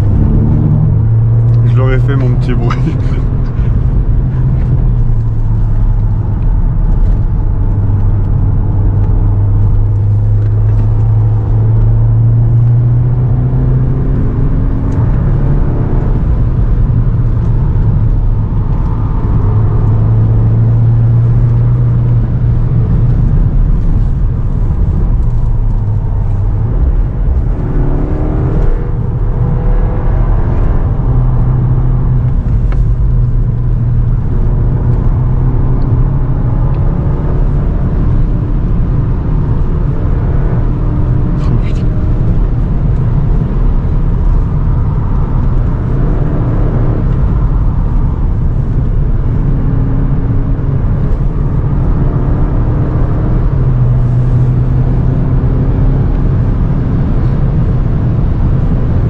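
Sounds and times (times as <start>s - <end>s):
car engine accelerating: 0.0s - 59.0s
tyre and road noise: 0.0s - 59.0s.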